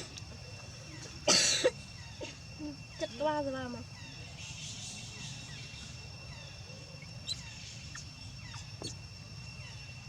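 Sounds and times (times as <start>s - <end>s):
insects droning: 0.0s - 10.0s
short insect chirps: 0.0s - 10.0s.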